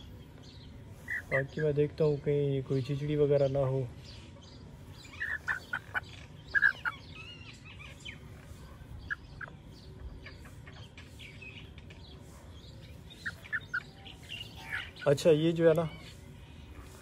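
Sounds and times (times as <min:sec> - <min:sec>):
faint bird chirps: 0:00.0 - 0:03.3, 0:04.0 - 0:17.0
chickens clucking: 0:00.0 - 0:17.0.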